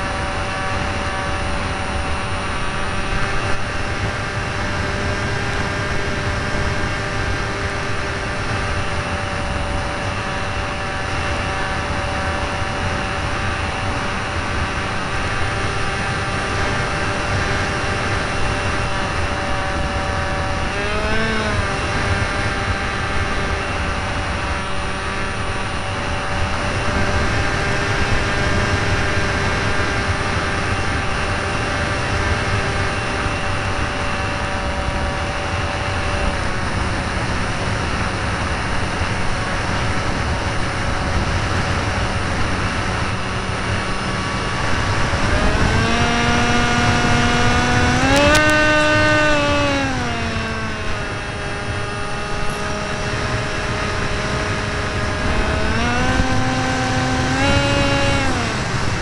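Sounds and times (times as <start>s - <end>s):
model airplane motor and propeller: 0.0s - 59.0s.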